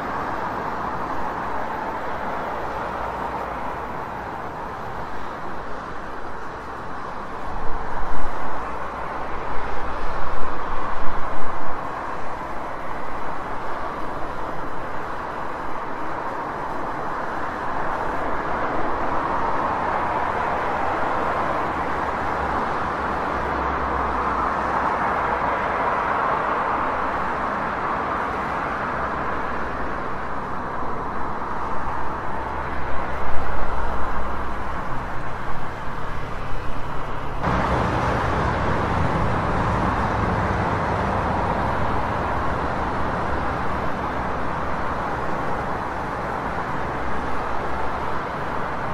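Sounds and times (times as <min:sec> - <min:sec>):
road traffic: 0:00.0 - 0:48.9.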